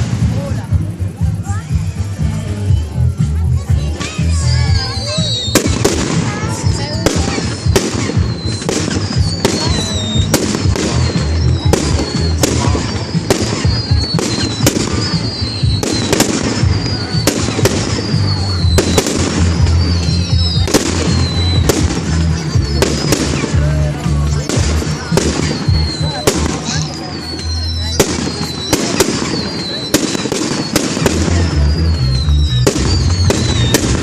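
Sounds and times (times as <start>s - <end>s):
fireworks bursting: 0.0s - 34.0s
fireworks whistling: 0.0s - 34.0s
music playing: 0.0s - 34.0s.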